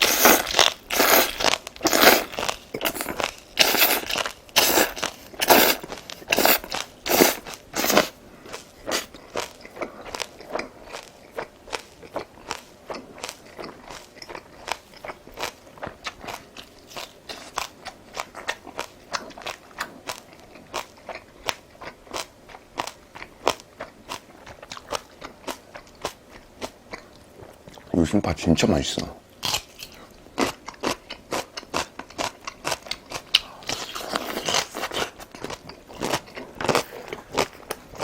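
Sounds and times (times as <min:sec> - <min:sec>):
chewing crunchy food: 0:00.0 - 0:38.0.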